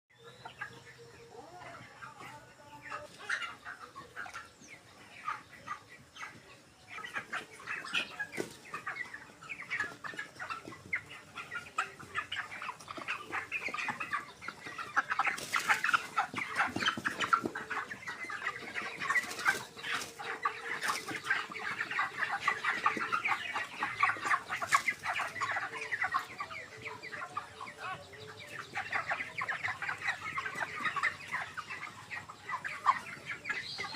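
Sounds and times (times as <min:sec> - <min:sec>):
chickens peeping and clucking: 0:00.1 - 0:33.9.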